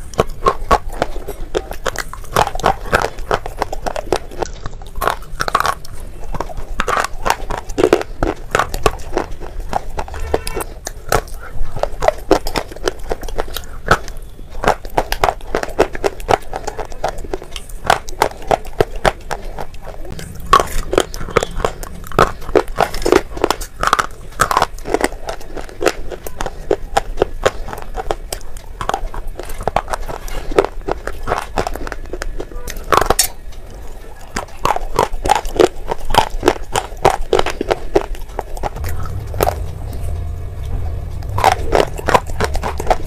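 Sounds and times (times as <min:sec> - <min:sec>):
crunching and chewing: 0:00.0 - 0:43.0.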